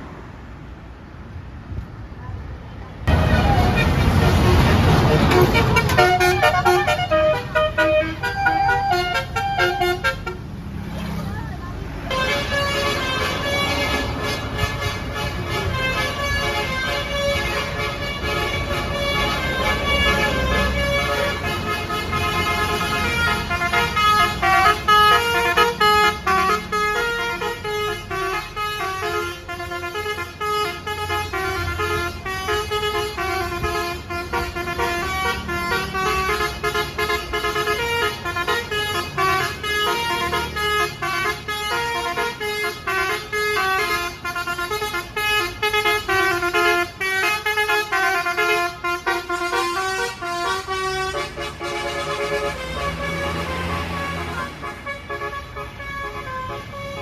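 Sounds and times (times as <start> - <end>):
melody horn playing a tune: 3.1 - 10.4, 12.1 - 57.0.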